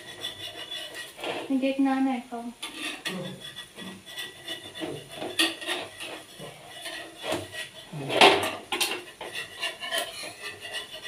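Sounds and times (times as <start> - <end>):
metal spatula scraping griddle: 0.0 - 11.0.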